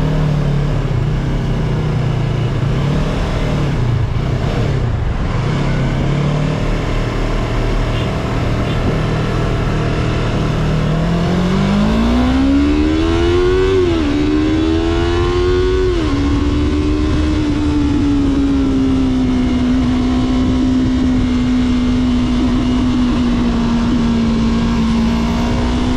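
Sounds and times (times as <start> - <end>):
low wind rumble: 0.0 - 25.9
motorcycle engine accelerating: 0.0 - 25.9.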